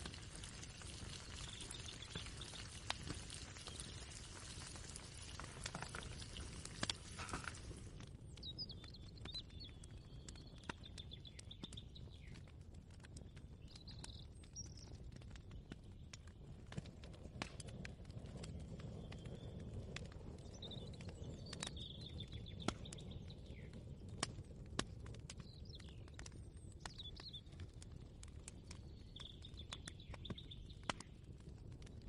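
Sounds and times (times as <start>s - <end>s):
hiss with soft crackles: 0.0s - 32.0s.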